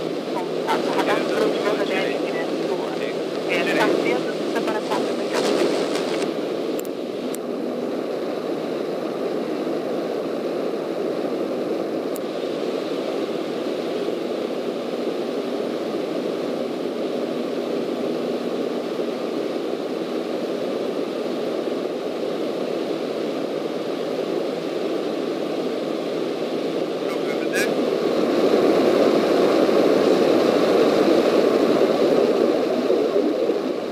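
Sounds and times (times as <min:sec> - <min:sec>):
airflow noise: 0:00.0 - 0:33.9
propeller plane engine drone: 0:00.0 - 0:33.9.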